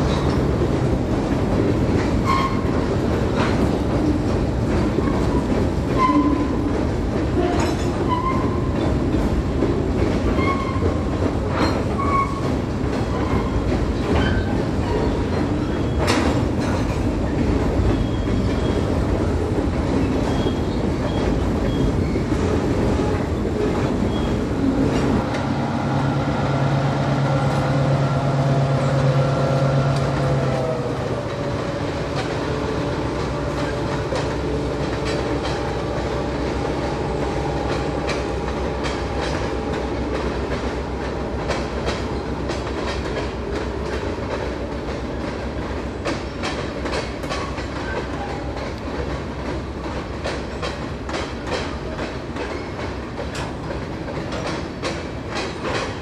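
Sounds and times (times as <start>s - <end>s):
wheels clattering over rail joints: 0.0s - 25.5s, 27.3s - 56.0s
diesel locomotive rumble: 0.0s - 56.0s.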